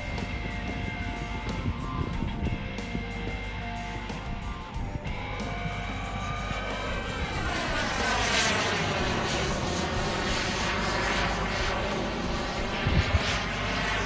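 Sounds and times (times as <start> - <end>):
jet turbine whining roar: 0.0 - 14.0.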